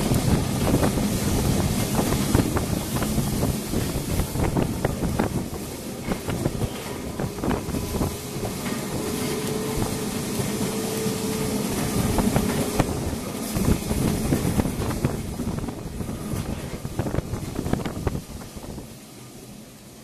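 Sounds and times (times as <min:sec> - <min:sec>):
wheels clacking on rails: 0:00.0 - 0:19.0
tram rumble and rattle: 0:00.0 - 0:20.0.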